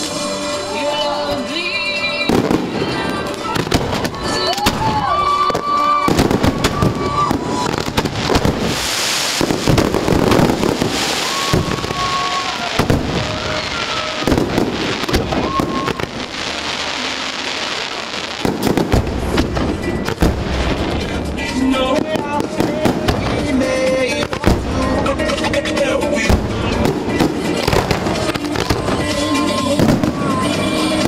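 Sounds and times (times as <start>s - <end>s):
music: 0.0s - 31.0s.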